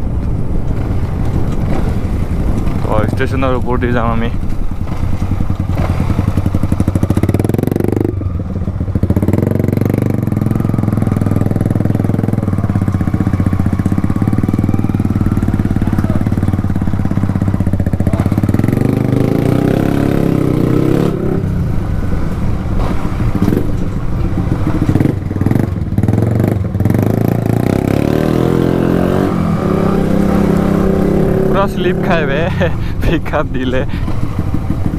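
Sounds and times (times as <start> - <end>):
loud motorcycle engine: 0.0 - 34.9.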